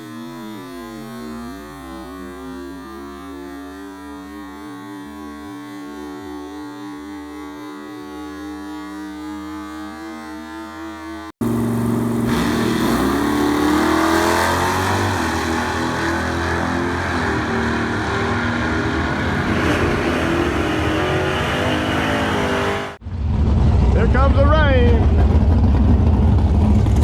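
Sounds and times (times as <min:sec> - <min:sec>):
drag car engine at full throttle: 0:00.0 - 0:27.0.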